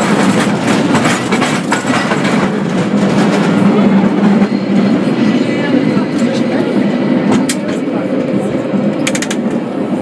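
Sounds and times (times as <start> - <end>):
rattles and clicks of cable car: 0.0 - 9.7.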